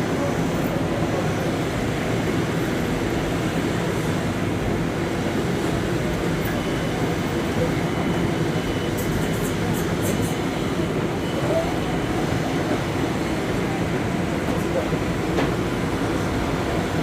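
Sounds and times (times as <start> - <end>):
train wheels and motors: 0.0 - 17.0.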